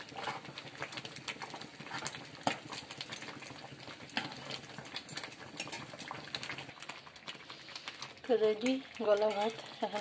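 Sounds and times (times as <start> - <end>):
porridge bubbling in a pot: 0.0 - 10.0.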